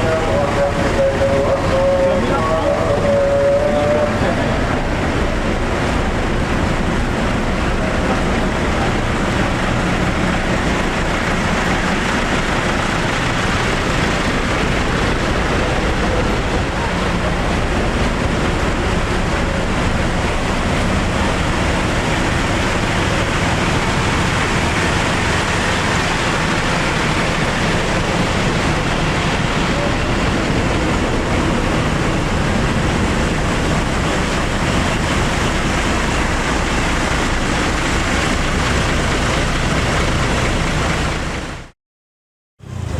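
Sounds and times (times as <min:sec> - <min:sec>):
bus engines roaring: 0:00.0 - 0:41.8, 0:42.6 - 0:42.9
road traffic: 0:00.0 - 0:41.8, 0:42.6 - 0:42.9.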